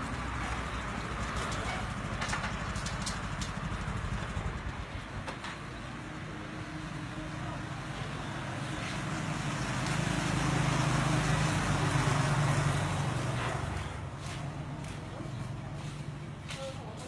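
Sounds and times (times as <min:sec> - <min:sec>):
vehicle passing on road: 0:00.0 - 0:16.4.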